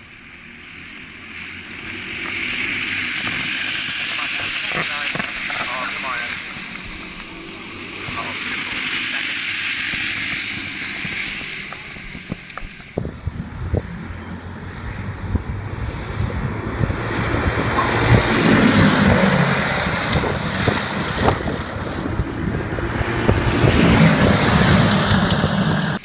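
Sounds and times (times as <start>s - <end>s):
racing karts passing: 0.0s - 26.0s.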